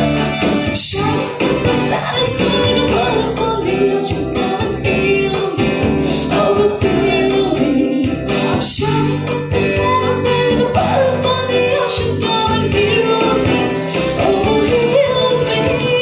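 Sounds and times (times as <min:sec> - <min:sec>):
guitar: 0:00.0 - 0:16.0
woman singing into a microphone: 0:00.0 - 0:16.0.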